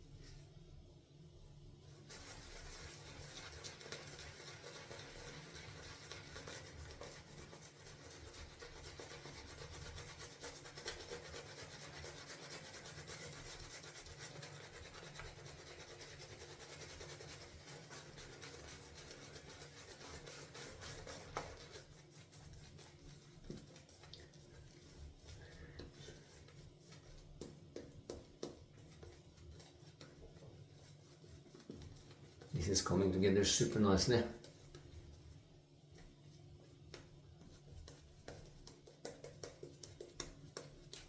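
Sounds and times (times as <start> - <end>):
shaving brush lathering soap: 1.9 - 35.4, 36.0 - 41.0.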